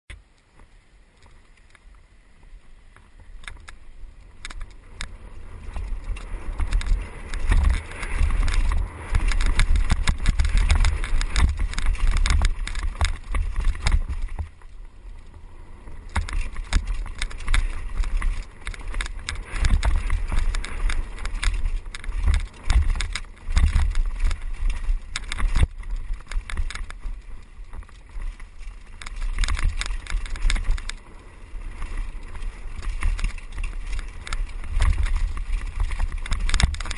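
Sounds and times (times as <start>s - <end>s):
bike clattering over rough ground: 0.1s - 36.9s
wind buffeting microphone: 2.5s - 36.9s.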